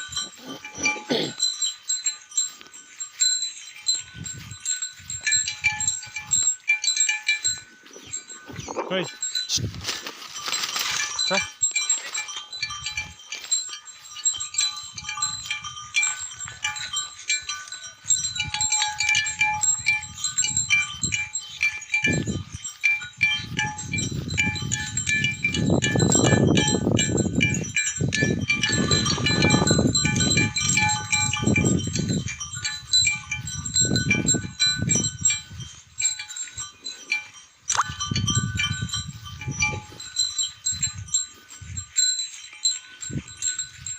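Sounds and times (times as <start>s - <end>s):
livestock neck bells jangling: 0.0s - 43.9s.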